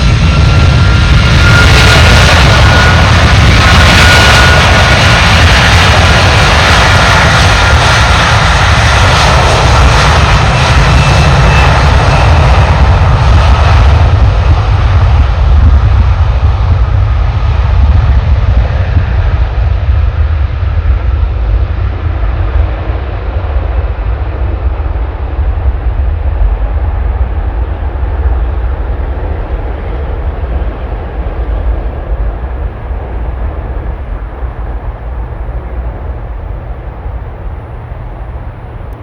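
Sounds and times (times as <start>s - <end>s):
high fan whine: 0.0s - 39.0s
jet engines at takeoff: 0.0s - 39.0s.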